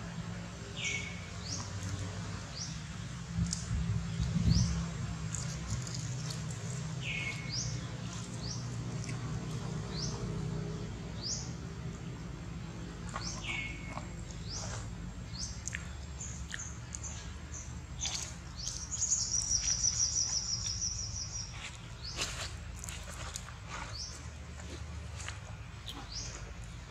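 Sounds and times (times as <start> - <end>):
birds chirping: 0.1 - 26.9.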